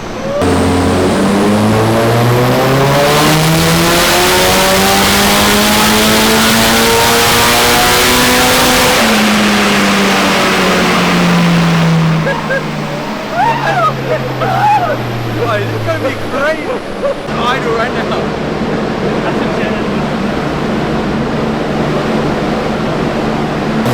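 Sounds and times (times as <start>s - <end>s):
turbocharged car engine revving: 0.0s - 23.9s.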